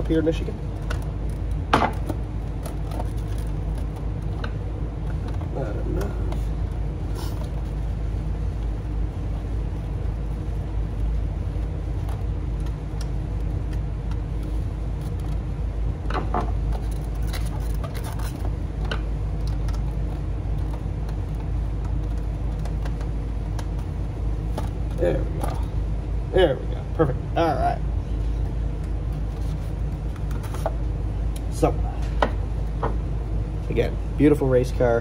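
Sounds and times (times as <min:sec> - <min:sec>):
furnace low rumble: 0:00.0 - 0:35.0.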